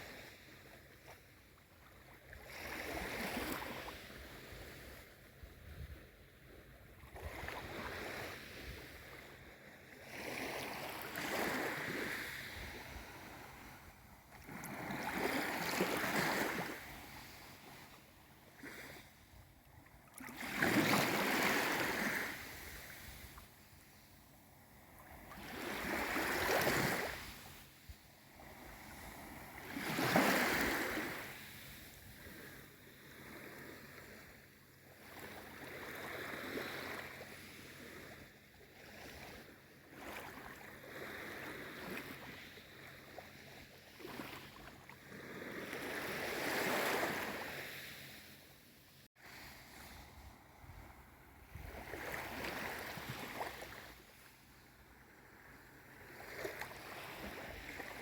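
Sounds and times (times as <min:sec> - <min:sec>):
small waves washing in: 0:00.0 - 0:58.0.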